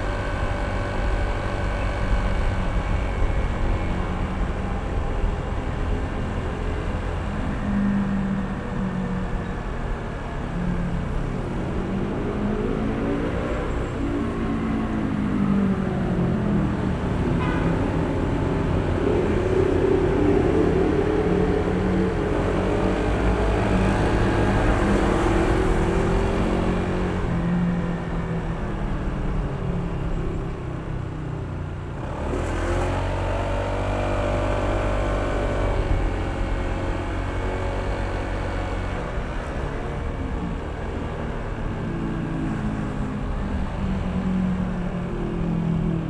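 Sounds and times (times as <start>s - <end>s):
wind and road noise: 0.0s - 46.0s.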